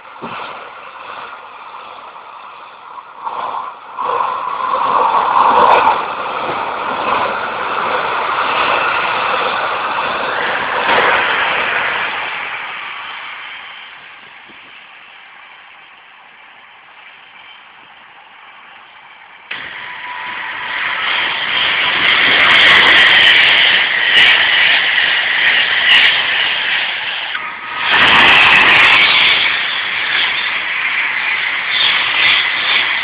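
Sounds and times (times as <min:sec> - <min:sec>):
freight wagons rolling on rail: 0:00.0 - 0:33.0.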